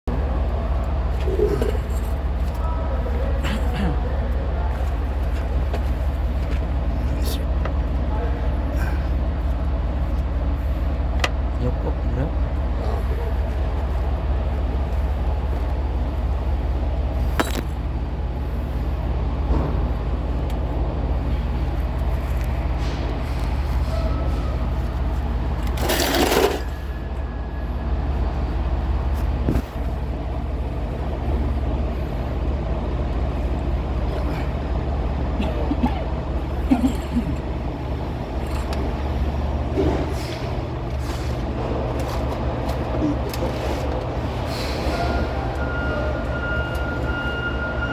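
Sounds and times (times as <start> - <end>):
engine running: 0.1 - 47.9.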